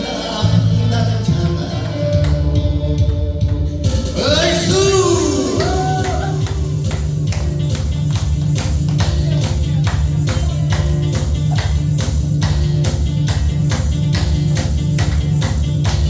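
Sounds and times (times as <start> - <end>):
backing music with bass beat: 0.0 - 16.0.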